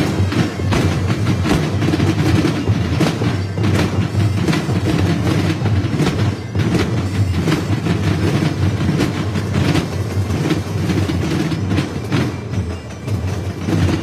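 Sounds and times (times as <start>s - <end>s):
drumline playing marching drums: 0.0s - 14.0s.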